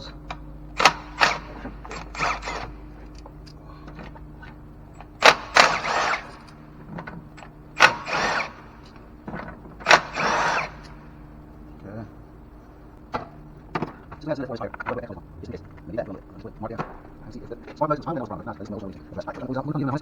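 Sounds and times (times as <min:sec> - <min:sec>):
sharp clicks of clips letting go: 0:00.0 - 0:19.6
faint steady hum: 0:00.0 - 0:20.0.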